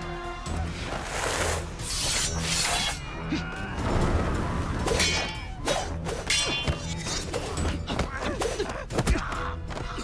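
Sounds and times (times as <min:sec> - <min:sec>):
dramatic background music: 0:00.0 - 0:10.0.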